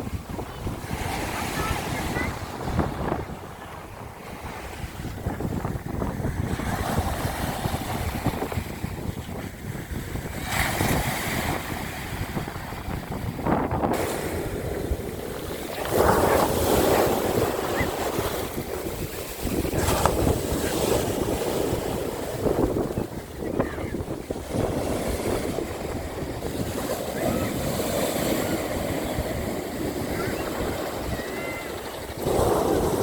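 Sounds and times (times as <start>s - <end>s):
sea waves breaking on shore: 0.0s - 33.0s
wind rumbling on microphone: 0.0s - 33.0s.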